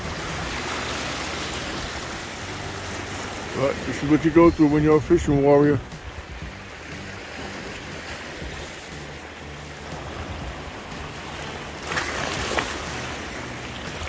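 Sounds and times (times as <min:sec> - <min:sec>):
sea waves splashing over rocks: 0:00.0 - 0:14.0.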